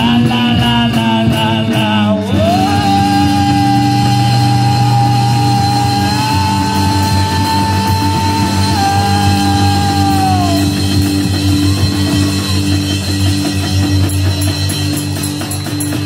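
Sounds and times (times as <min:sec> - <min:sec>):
rock band playing: 0:00.0 - 0:16.0
high sliding held note: 0:02.5 - 0:16.0.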